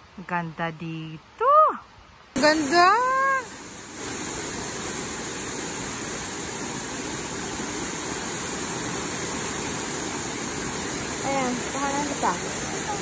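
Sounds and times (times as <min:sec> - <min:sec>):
waterfall rushing: 0:02.4 - 0:13.0.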